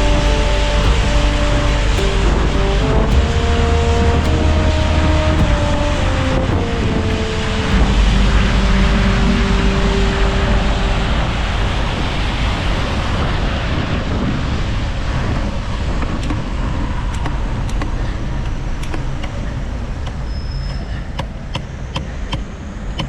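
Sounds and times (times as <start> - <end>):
traffic on wet road: 0.0 - 20.3.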